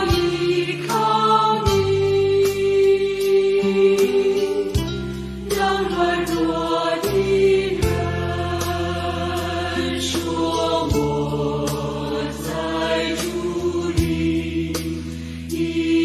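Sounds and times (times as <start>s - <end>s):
slow worship song: 0.0s - 16.0s.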